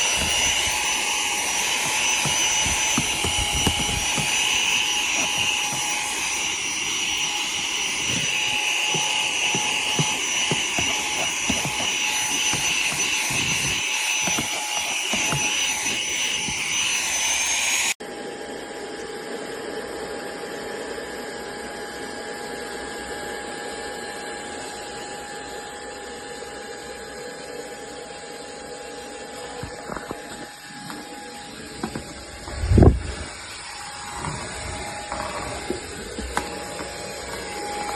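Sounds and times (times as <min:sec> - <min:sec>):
handheld vacuum motor whine: 0:00.0 - 0:37.9.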